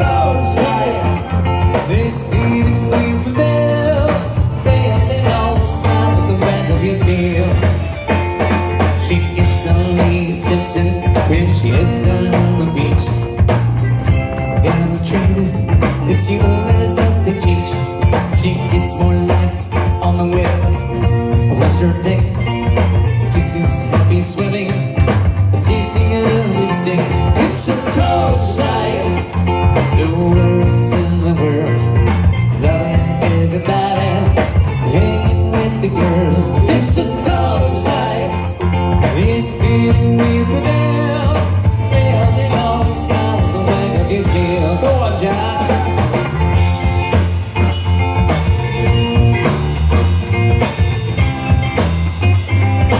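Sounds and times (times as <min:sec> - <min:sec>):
drum kit beat: 0:00.0 - 0:52.9
electric guitars: 0:00.0 - 0:52.9.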